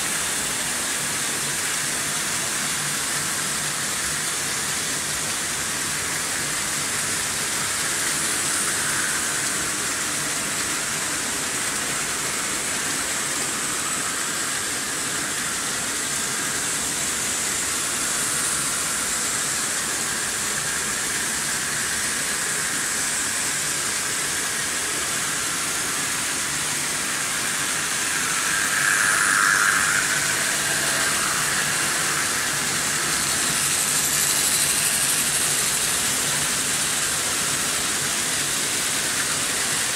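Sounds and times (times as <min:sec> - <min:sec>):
model train whirring on rails: 0:00.0 - 0:39.9.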